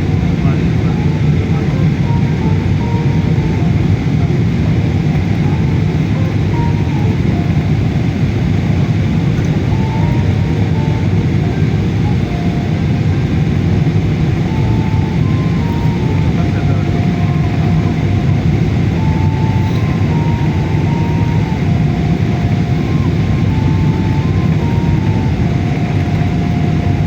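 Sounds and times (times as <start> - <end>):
airliner cabin drone: 0.0 - 27.0.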